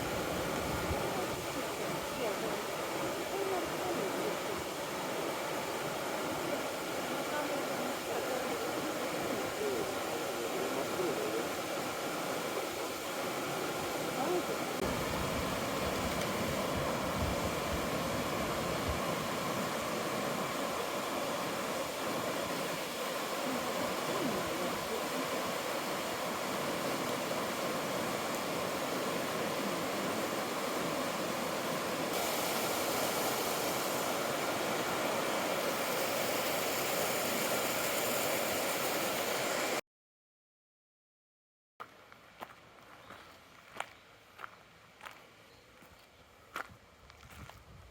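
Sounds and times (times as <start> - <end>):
river rushing through rocky gorge: 0.0 - 39.8.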